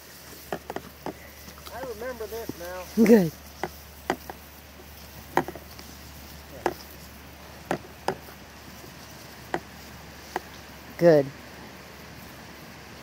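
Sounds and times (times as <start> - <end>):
dry grass stalks snapping underfoot: 0.0 - 10.7.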